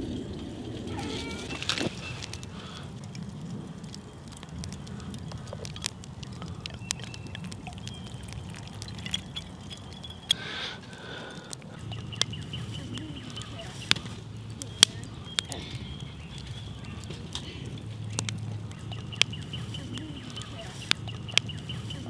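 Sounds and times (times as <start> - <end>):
water pouring from bottle: 0.0 - 22.0
sharp clicks: 1.5 - 22.0.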